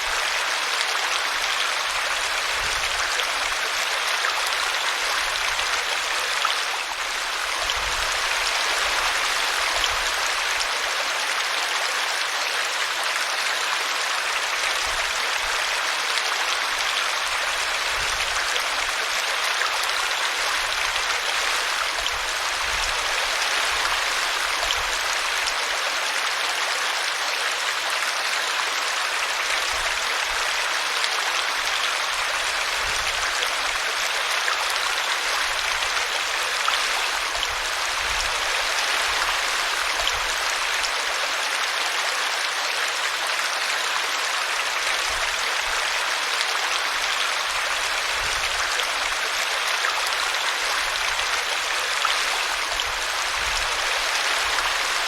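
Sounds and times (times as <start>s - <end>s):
brook water flowing: 0.0s - 55.0s.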